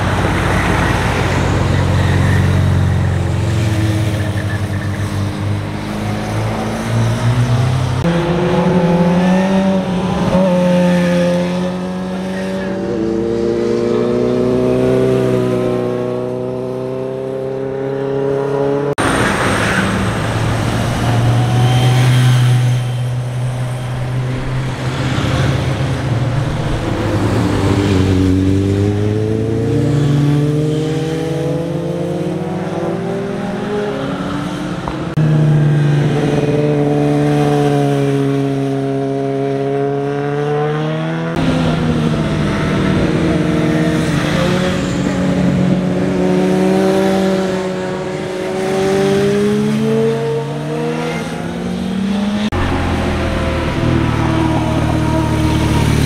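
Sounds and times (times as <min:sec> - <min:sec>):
motorcycles accelerating past: 0:06.2 - 0:56.0.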